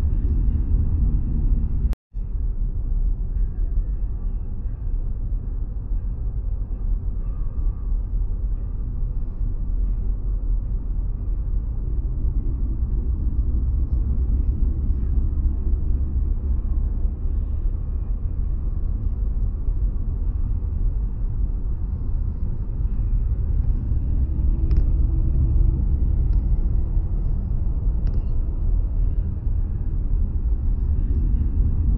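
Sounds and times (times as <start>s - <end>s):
car driving on snowy road: 6.0s - 31.9s.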